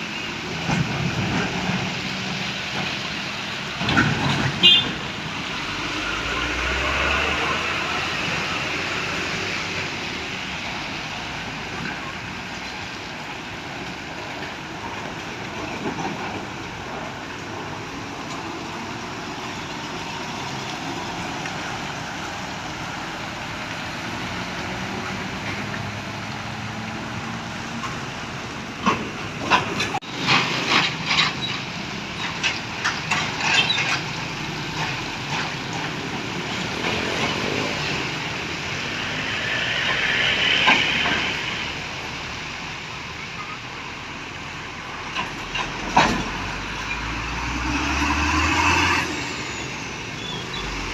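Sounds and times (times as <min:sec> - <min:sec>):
heavy trucks rumbling: 0:00.0 - 0:50.9.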